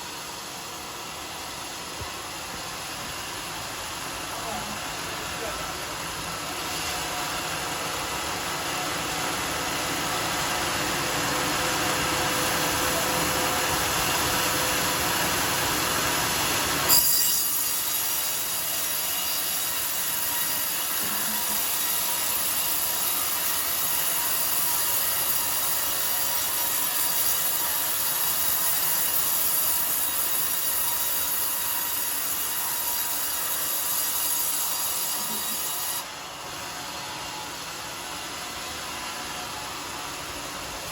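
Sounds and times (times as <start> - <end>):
circular saw cutting log: 0.0 - 39.3.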